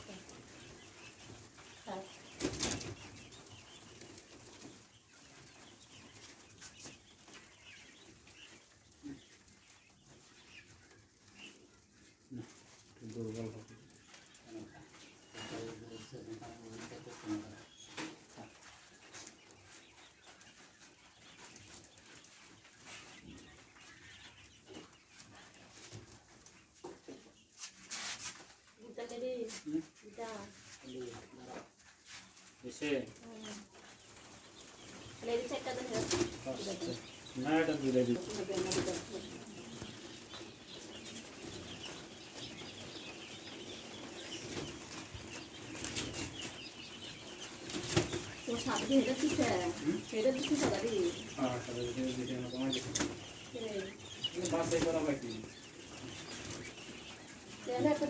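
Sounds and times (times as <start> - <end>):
birds rustling: 0.0 - 58.0
quail chirping: 0.0 - 58.0.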